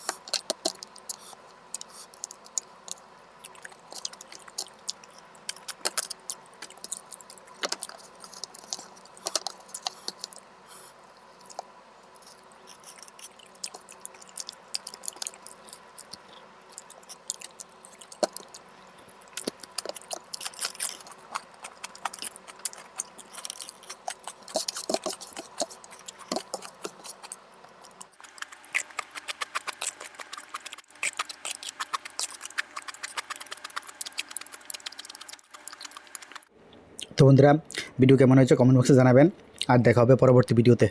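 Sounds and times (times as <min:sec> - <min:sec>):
person chewing food: 0:00.0 - 0:37.1.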